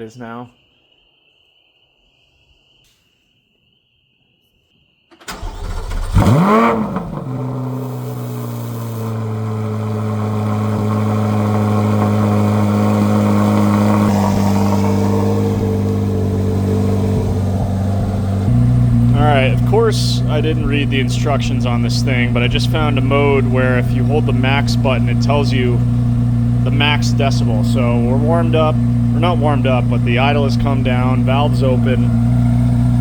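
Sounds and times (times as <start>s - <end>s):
car engine starting and revving: 5.2s - 33.0s
loud car engine idling: 5.3s - 33.0s.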